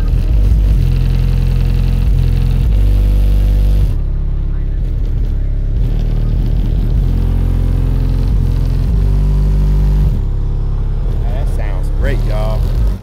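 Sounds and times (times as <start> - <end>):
deep subwoofer bass music: 0.0 - 13.0.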